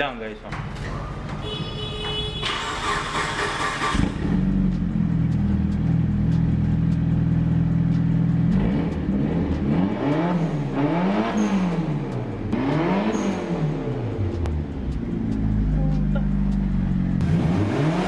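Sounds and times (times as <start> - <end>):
car engine idling: 0.3 - 18.0
car engine revving: 2.5 - 18.0.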